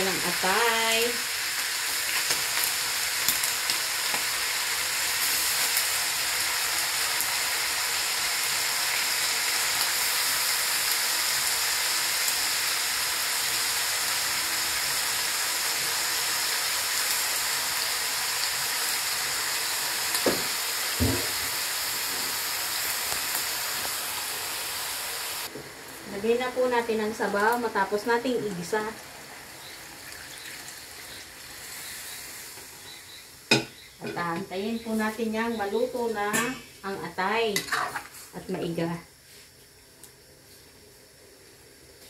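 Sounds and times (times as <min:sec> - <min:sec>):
chicken sizzling in a wok: 0:00.0 - 0:42.0.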